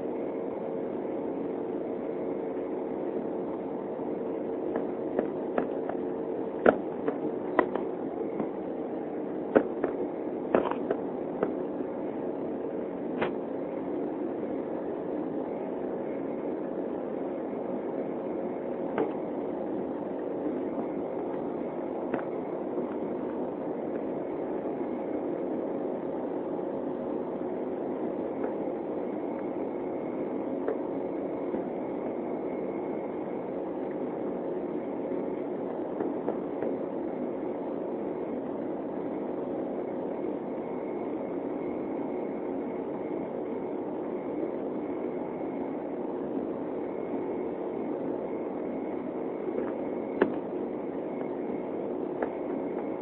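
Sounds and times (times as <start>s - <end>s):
airliner cabin hum: 0.0s - 53.0s
faint high whine: 0.0s - 53.0s
jet engines and airflow rushing: 0.0s - 53.0s.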